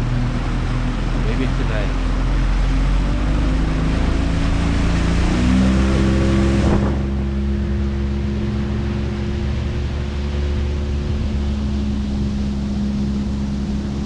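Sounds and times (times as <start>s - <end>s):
boat engine running: 0.0s - 14.0s
water rushing: 0.0s - 14.0s
wind noise: 2.5s - 14.0s.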